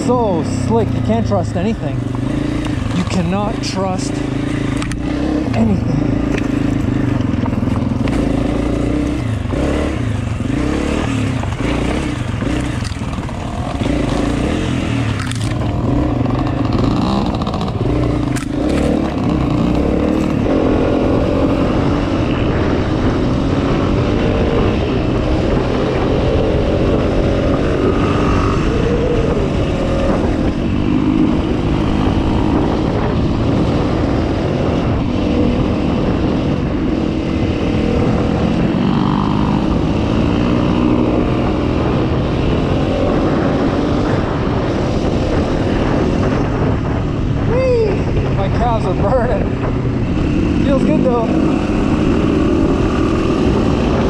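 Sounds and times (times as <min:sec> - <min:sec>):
dirt bike engine revving: 0:00.0 - 0:47.5, 0:48.1 - 0:54.0.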